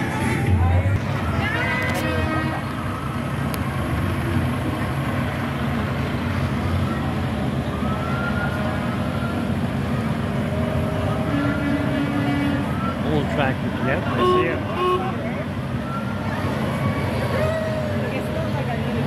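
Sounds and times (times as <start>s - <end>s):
diesel engines running: 0.0s - 19.0s.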